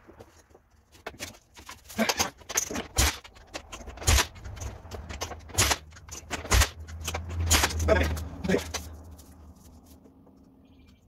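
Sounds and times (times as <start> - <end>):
hand tool clicks and clatter: 0.9 - 10.5.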